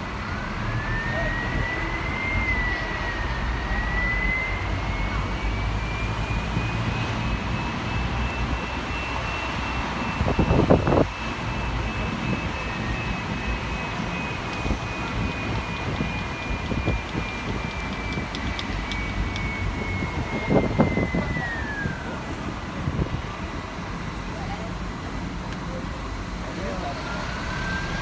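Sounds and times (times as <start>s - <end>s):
thin high whine: 0.0s - 25.1s
bus engine rumble: 0.0s - 28.0s.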